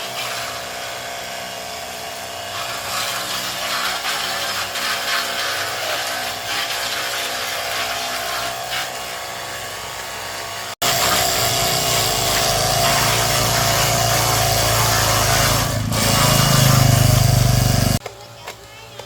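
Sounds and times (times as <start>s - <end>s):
power tool scraping: 0.0s - 18.0s
tool running with low hum: 0.0s - 19.0s.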